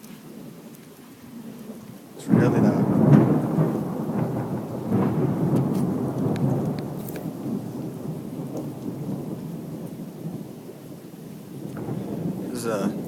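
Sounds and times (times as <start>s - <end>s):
rain falling: 0.0s - 13.0s
thunder rumbling: 0.3s - 13.0s.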